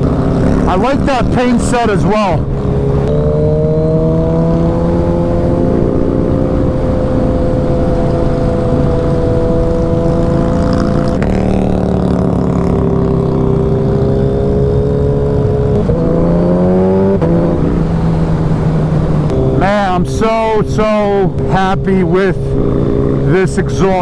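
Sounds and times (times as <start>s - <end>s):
motorcycle engine at speed: 0.0s - 24.0s
wind rush: 0.0s - 24.0s.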